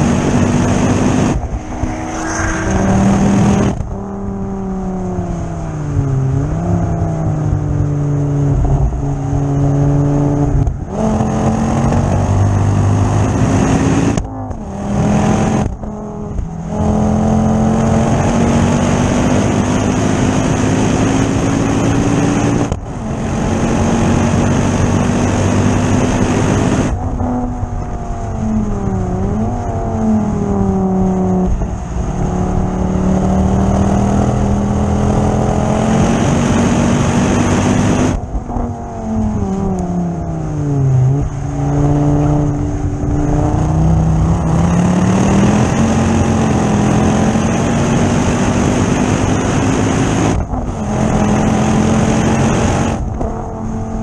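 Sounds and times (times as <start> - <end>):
car engine revving under load: 0.0 - 54.0.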